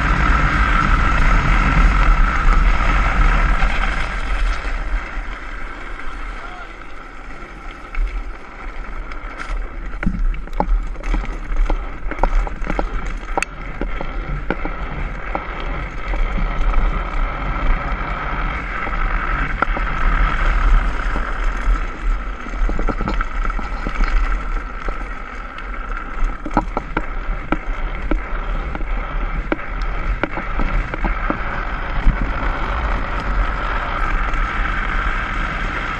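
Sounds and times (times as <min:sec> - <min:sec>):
wheels rolling fast on asphalt: 0:00.0 - 0:35.9
wind rushing over microphone: 0:00.0 - 0:35.9.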